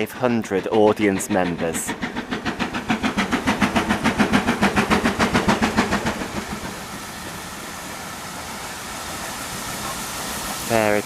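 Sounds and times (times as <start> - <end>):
carriages rumbling and hissing: 0.0 - 11.0
steam locomotive chuffing: 0.0 - 11.0.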